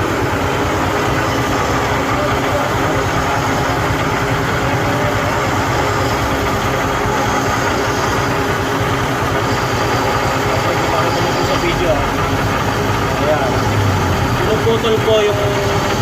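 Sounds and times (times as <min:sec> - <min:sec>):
engine humming steadily: 0:00.0 - 0:16.0.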